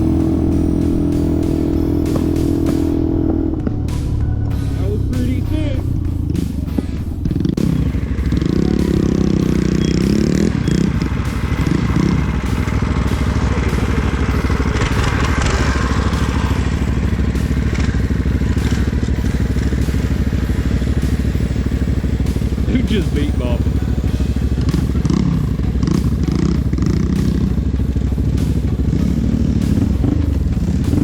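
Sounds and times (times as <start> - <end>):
mini bike engine running: 0.0 - 31.0.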